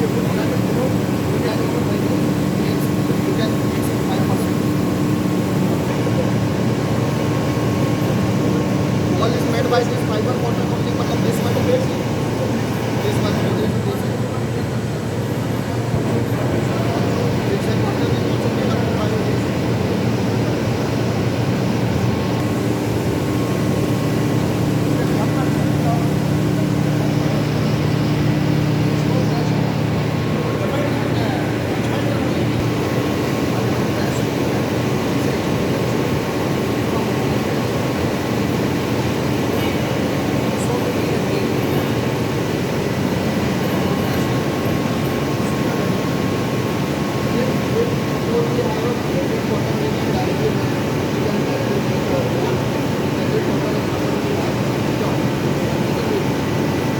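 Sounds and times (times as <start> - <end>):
faint constant whine: 0.0 - 56.9
machine humming: 0.0 - 56.9.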